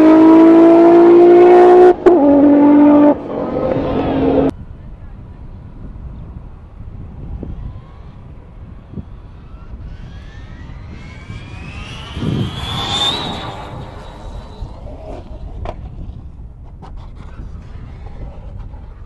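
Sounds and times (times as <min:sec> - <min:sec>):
race car engine whine: 0:00.0 - 0:19.0.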